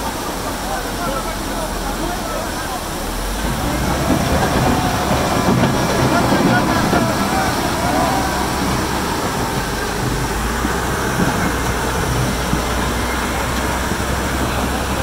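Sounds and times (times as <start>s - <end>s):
torrent roaring over rocks: 0.0s - 15.0s.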